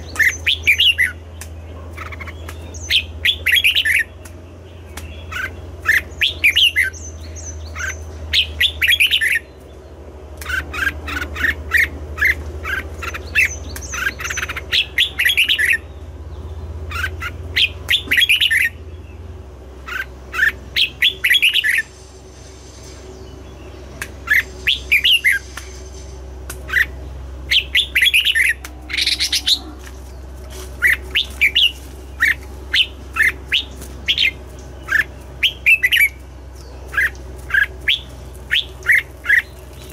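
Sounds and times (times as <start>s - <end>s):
bird singing chirpy notes: 0.0s - 39.9s
steady low hum: 0.0s - 39.9s.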